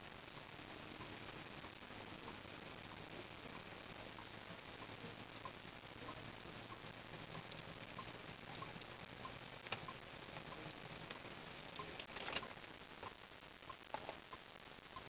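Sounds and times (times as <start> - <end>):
low hiss: 0.0 - 15.0.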